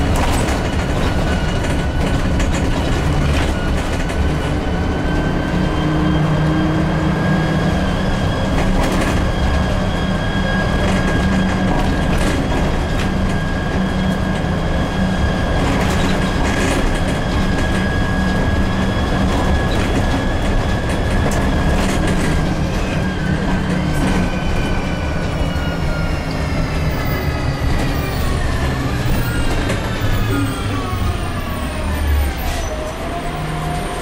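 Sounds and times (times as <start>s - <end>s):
diesel engine rumbling: 0.0s - 34.0s.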